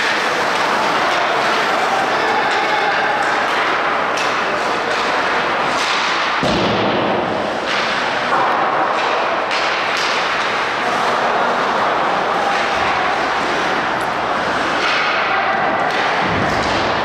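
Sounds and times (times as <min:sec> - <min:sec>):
hockey stick and puck cracks: 0:00.0 - 0:11.8, 0:14.4 - 0:17.0.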